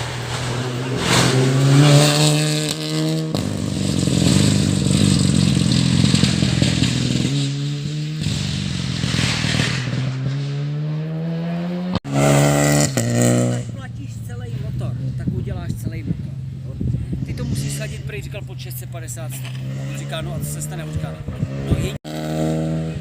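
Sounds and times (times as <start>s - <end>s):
rally car engine accelerating: 0.0s - 13.9s, 16.1s - 23.0s.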